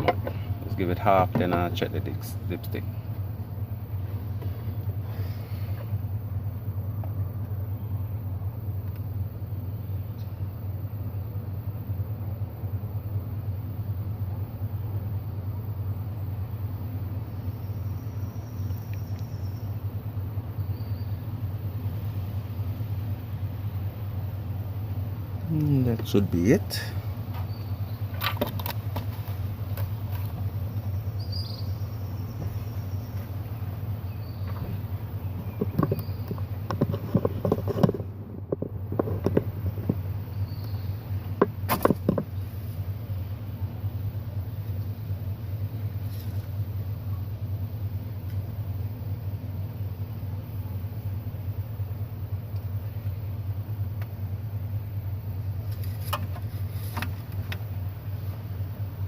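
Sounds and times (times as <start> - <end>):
low mechanical hum: 0.0 - 59.0
steady low rumble: 0.0 - 59.0.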